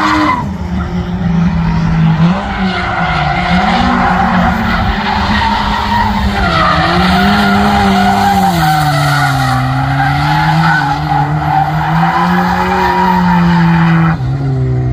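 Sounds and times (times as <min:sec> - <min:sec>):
car engine revving high: 0:00.0 - 0:14.9.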